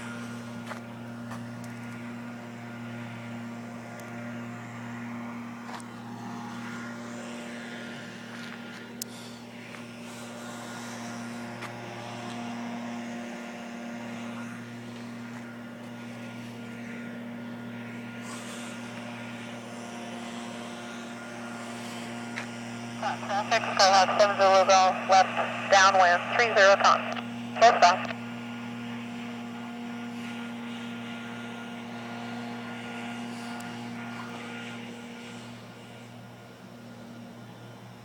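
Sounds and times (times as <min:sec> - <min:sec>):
airplane engine droning: 0:00.0 - 0:38.0.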